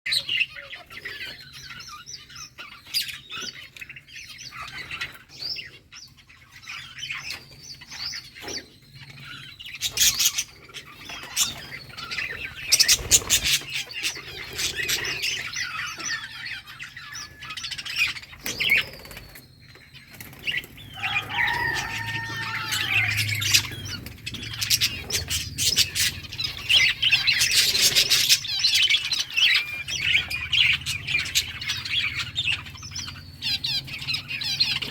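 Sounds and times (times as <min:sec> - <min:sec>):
budgerigars chirping and chattering: 0:00.1 - 0:34.9.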